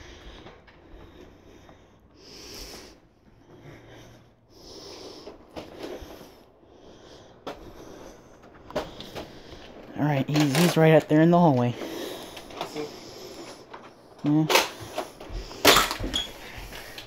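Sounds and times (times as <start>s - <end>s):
person breathing: 0.0s - 10.0s, 11.5s - 17.0s
faint clicks and rustles: 2.6s - 17.0s.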